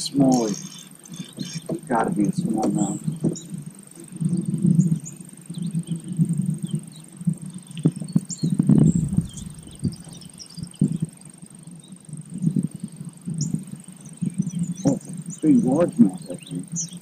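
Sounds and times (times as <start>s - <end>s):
birds chirping: 0.0s - 17.0s
insect drone: 0.0s - 17.0s
low rumbling bursts: 0.0s - 17.0s.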